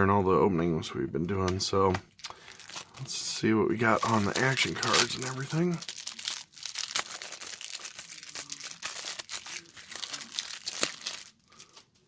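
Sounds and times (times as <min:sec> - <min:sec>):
foil wrapper crinkling: 0:02.2 - 0:12.0.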